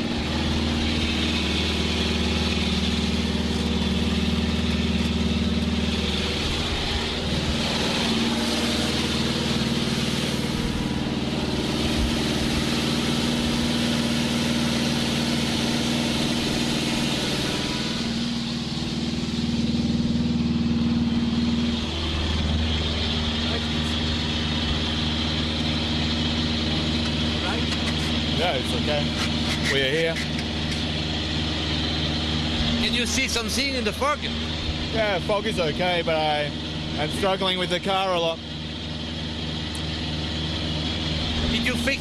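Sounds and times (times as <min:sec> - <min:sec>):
rally car engine idling: 0:00.0 - 0:42.0.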